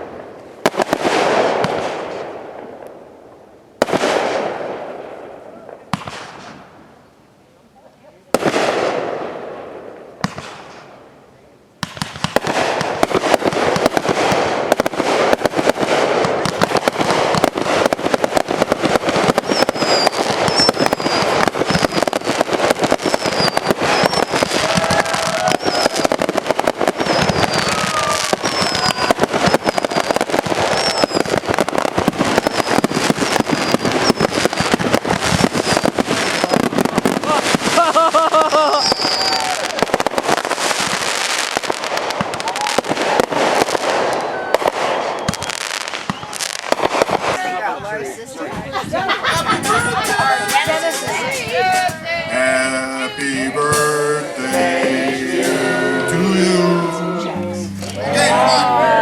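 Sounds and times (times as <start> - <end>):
firework bangs: 0.0 - 2.9, 3.8 - 6.9, 8.3 - 11.0, 11.8 - 47.6, 49.2 - 57.9
fireworks barrage with crackling: 0.0 - 3.2, 3.8 - 7.0, 8.2 - 11.1, 11.8 - 59.0.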